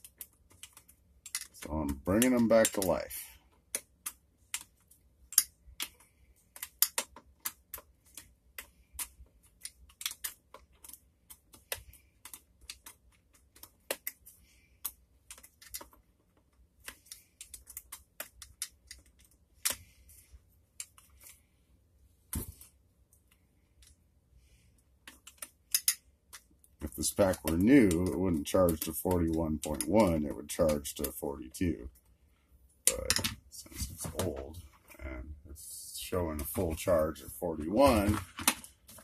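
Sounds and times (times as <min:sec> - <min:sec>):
plastic parts clicking and tapping: 0:00.0 - 0:21.5, 0:22.3 - 0:32.2, 0:32.8 - 0:34.9, 0:36.1 - 0:39.0.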